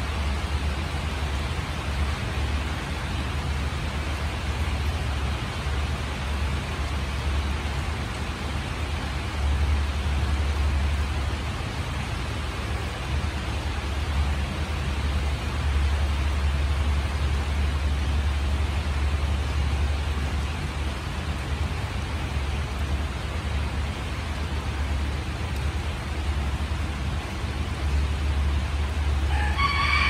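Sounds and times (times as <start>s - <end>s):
steady rain hissing: 0.0s - 30.0s.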